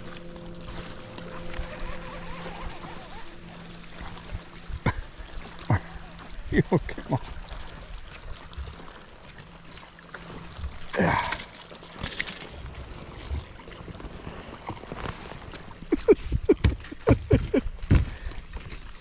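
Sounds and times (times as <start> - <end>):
fish splashing: 0.0 - 16.0.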